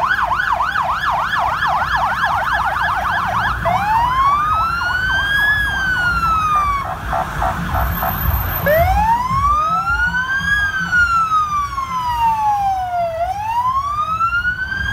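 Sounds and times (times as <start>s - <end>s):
siren yelp: 0.0s - 14.9s
wailing sirens: 0.0s - 14.9s.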